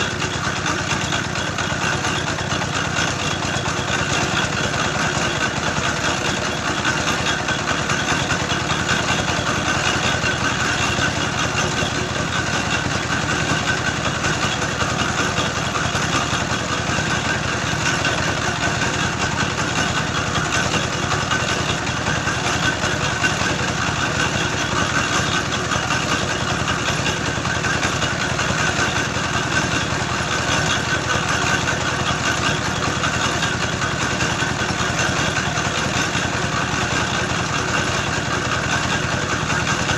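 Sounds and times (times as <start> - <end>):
engine-driven clay grinder running: 0.0 - 39.9.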